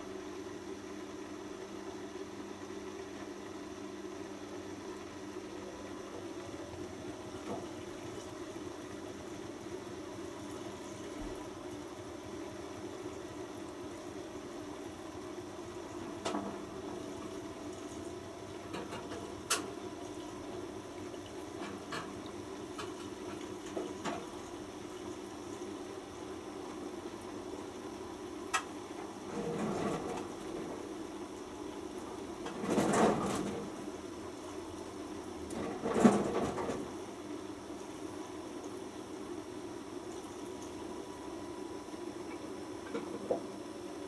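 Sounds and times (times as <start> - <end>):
washing machine motor hum: 0.0 - 44.0.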